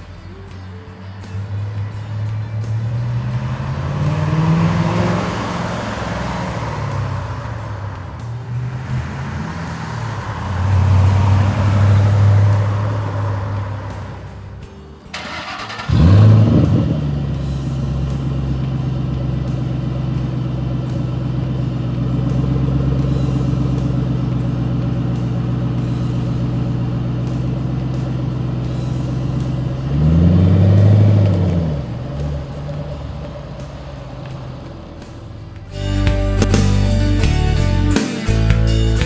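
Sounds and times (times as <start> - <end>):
car engine starting and idling: 0.0 - 39.0.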